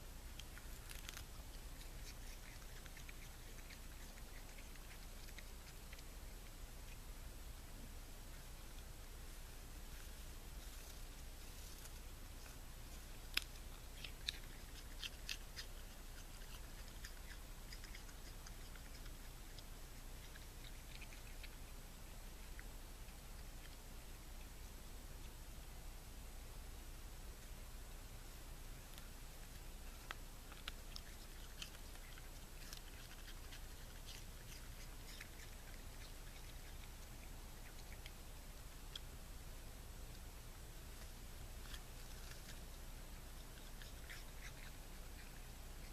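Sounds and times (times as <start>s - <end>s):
raccoon crunching apple: 0.0s - 25.5s, 26.9s - 45.9s
low background hum: 0.0s - 45.9s.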